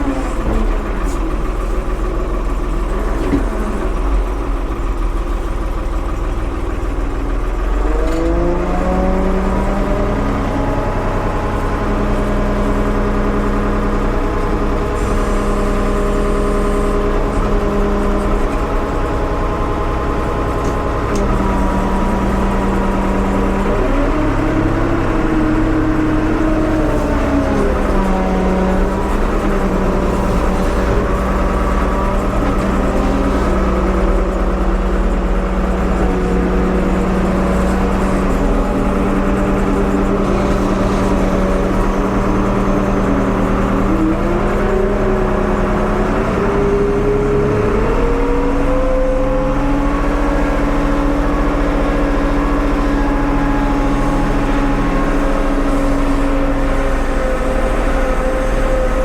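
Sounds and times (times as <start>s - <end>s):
backhoe engine running: 0.0s - 59.0s.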